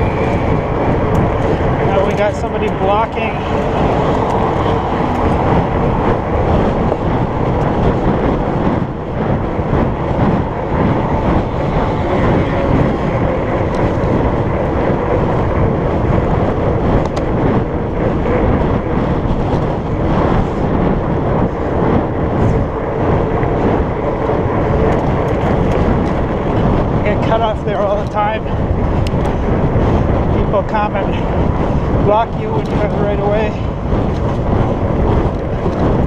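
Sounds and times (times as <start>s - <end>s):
bike tires rolling on pavement: 0.0s - 36.0s
wind buffeting microphone: 0.0s - 36.0s.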